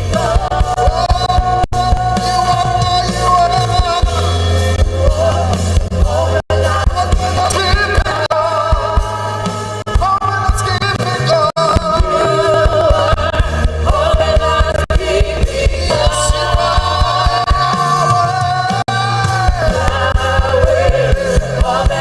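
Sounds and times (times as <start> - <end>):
band with bass and drums: 0.0 - 22.0
gospel singing: 0.0 - 22.0.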